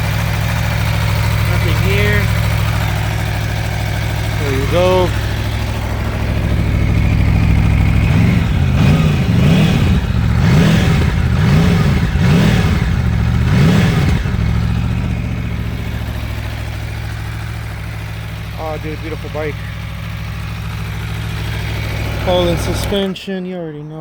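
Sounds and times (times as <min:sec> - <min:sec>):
motorcycle engine revving: 0:00.0 - 0:23.2
motorcycle engine idling: 0:00.0 - 0:23.4.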